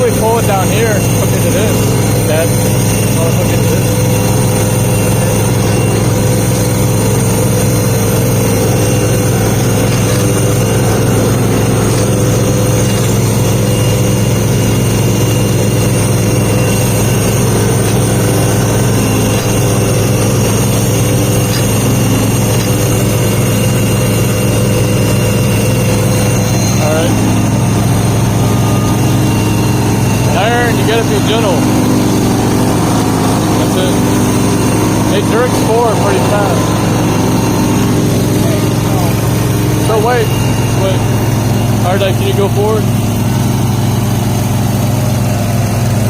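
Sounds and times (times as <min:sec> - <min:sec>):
tractor engine running steadily: 0:00.0 - 0:46.0.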